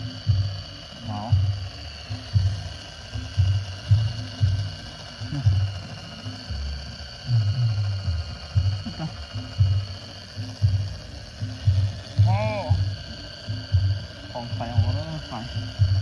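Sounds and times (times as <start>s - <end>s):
toy motor whining: 0.0s - 16.0s.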